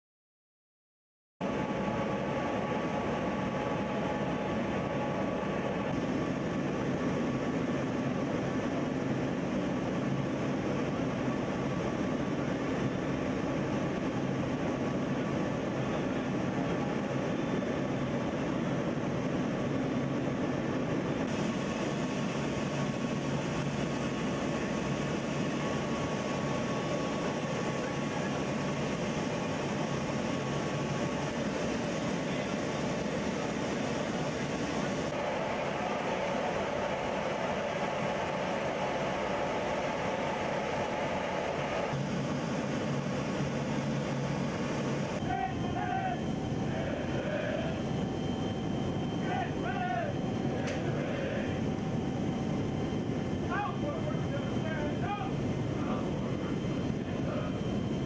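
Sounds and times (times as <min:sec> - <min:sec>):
aircraft engine and air noise: 0:01.4 - 0:58.0
faint steady tones: 0:01.5 - 0:58.0.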